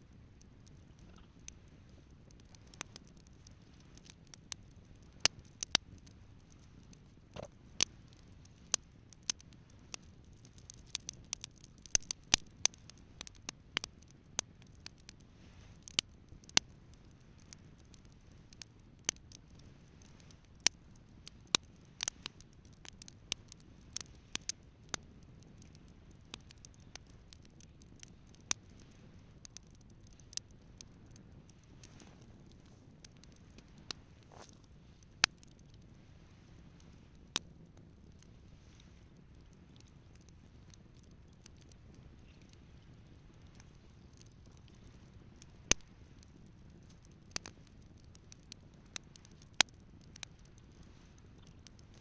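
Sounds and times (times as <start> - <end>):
campfire crackling: 0.0 - 52.0
faint steady low noise: 0.0 - 52.0.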